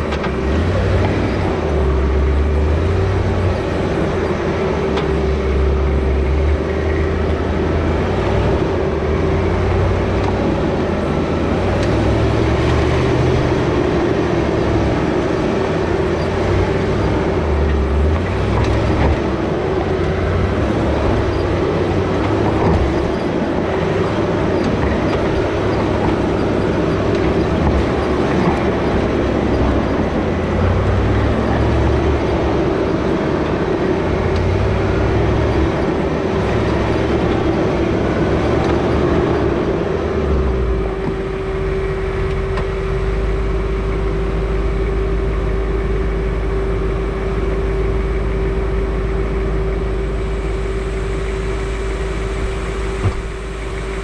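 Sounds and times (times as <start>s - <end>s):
truck rumbling over stones: 0.0s - 43.2s
engine running: 0.0s - 54.0s.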